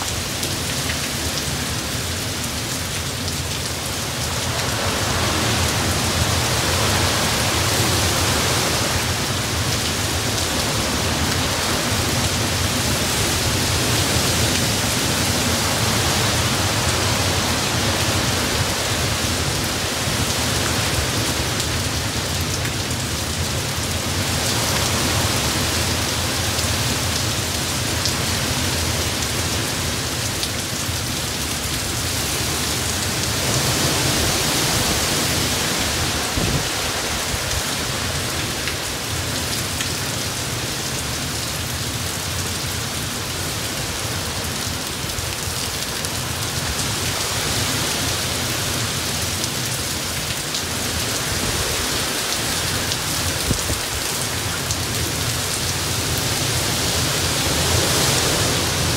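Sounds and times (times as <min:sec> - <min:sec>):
heavy rain pouring: 0:00.0 - 0:58.9
strong wind: 0:03.6 - 0:40.6, 0:42.8 - 0:58.9.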